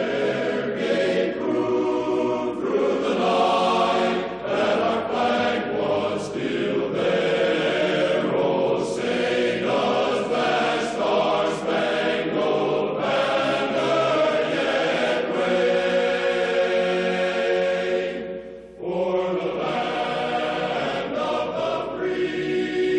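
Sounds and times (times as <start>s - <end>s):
choir singing held chords: 0.0s - 22.9s.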